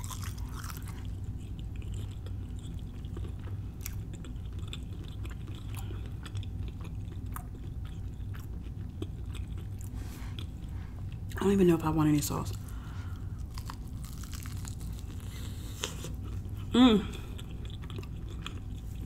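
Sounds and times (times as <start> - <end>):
person chewing crusty food: 0.0 - 11.4, 12.5 - 19.0
steady low hum: 0.0 - 19.0.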